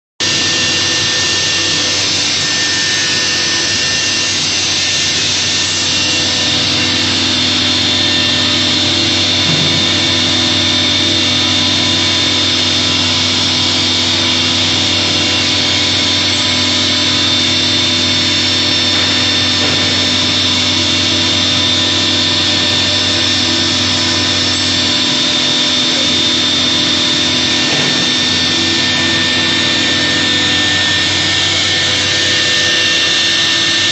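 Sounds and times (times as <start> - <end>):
router spindle high-pitched whine: 0.2 - 33.9.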